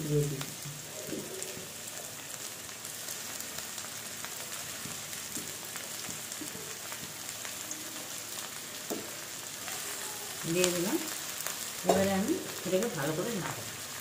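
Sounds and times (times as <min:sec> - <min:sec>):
prawns and onions sizzling in oil: 0:00.0 - 0:14.0.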